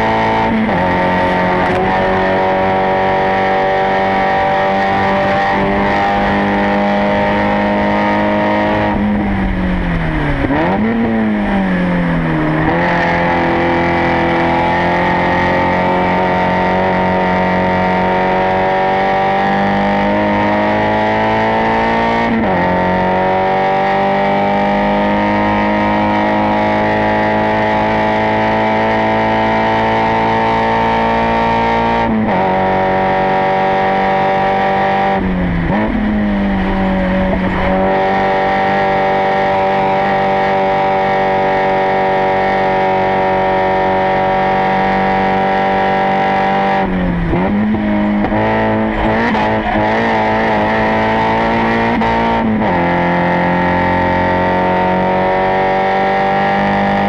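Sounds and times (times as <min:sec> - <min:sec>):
racing engine at full throttle: 0:00.0 - 0:57.0.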